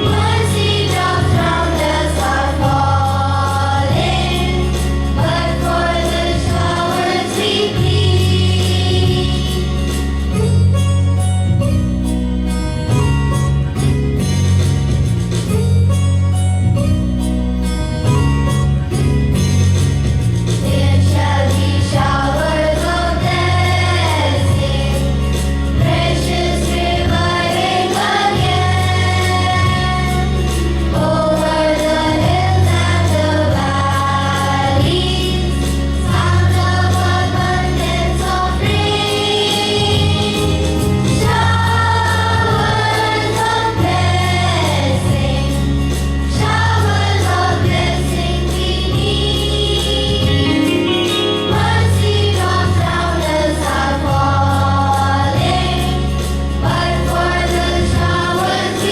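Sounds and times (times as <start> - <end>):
choir singing a hymn: 0.0 - 10.2, 20.6 - 58.9
instrumental backing with bass line: 0.0 - 58.9.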